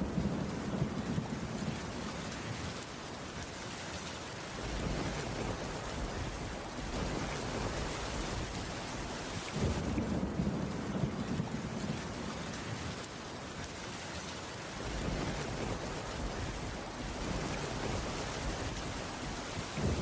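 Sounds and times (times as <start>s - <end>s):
rain on a wooden roof: 0.0s - 20.0s.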